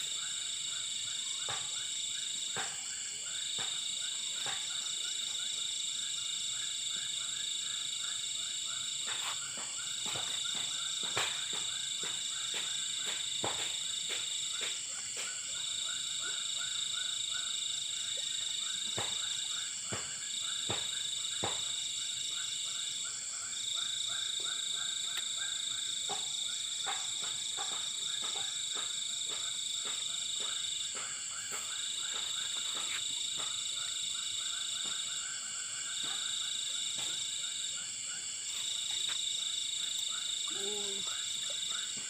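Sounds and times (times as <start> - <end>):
frogs calling: 0.0 - 42.0
high-pitched insect trill: 0.0 - 42.0.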